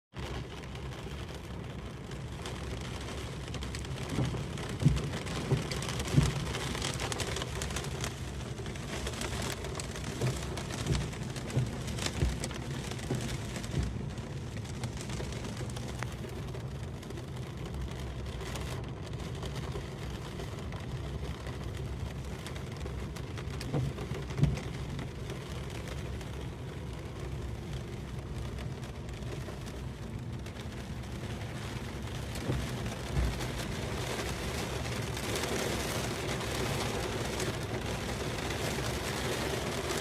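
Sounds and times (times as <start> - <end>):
heavy rain: 0.1 - 40.0.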